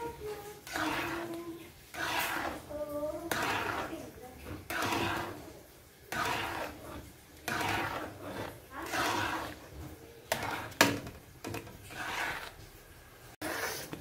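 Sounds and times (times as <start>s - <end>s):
spoon scraping mashed yam in pan: 0.0s - 14.0s.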